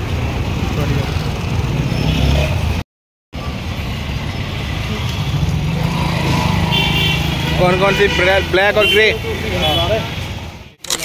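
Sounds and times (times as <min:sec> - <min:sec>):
motor vehicle engines: 0:00.0 - 0:02.8, 0:03.4 - 0:11.0
road noise: 0:00.0 - 0:11.0.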